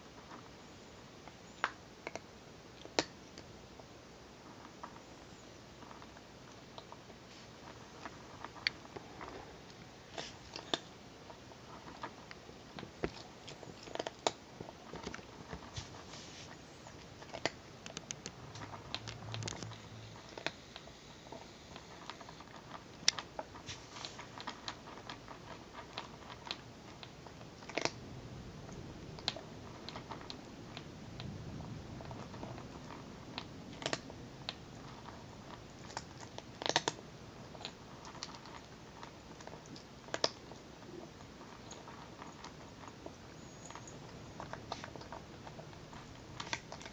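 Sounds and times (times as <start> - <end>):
cat crunching dry kibble: 5.8 - 28.0, 28.6 - 46.9.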